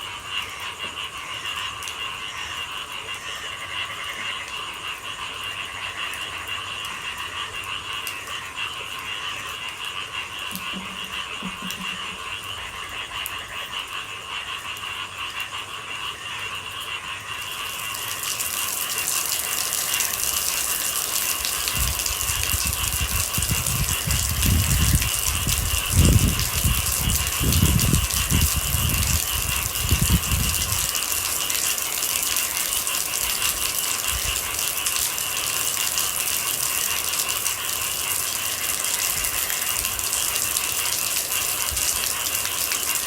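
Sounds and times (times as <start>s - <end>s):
frog chorus croaking: 0.0s - 43.0s
rain hiss: 0.0s - 43.0s.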